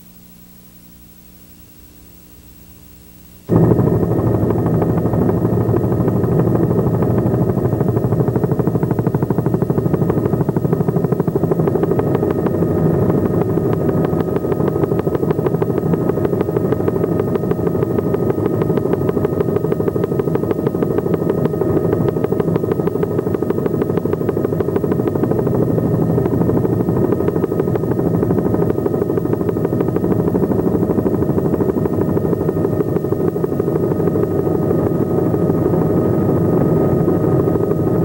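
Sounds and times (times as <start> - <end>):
helicopter rotor and engine: 3.5 - 38.0.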